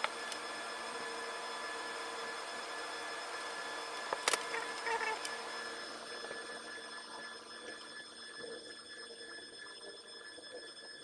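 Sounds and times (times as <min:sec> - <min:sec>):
steady electrical hum: 0:00.0 - 0:10.8.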